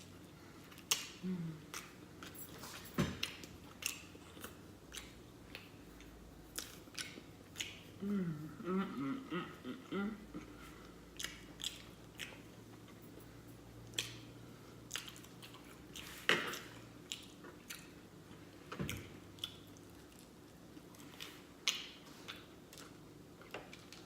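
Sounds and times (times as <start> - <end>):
person chewing with wet smacks: 0.0 - 2.4, 3.2 - 8.1, 10.3 - 24.0.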